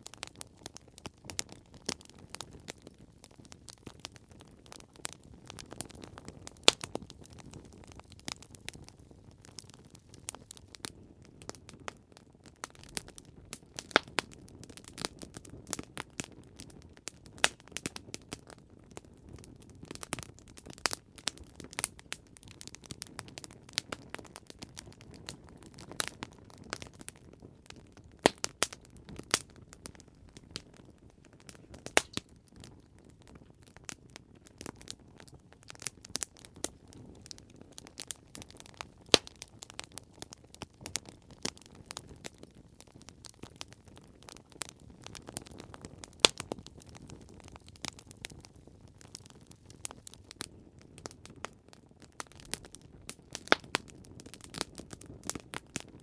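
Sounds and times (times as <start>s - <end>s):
burning wood crackling: 0.0s - 56.0s.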